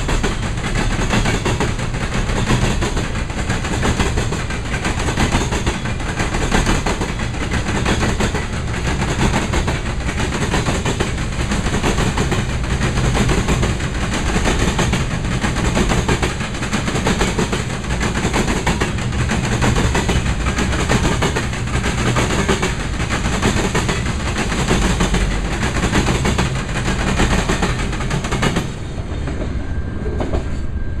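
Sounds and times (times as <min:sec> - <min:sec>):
wheels clicking over rail joints: 0:00.0 - 0:29.4
freight train rolling past: 0:00.0 - 0:31.0.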